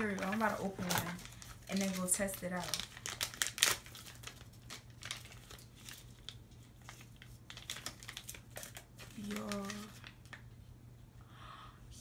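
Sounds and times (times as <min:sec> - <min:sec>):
wrapper crinkling: 0:00.0 - 0:10.5.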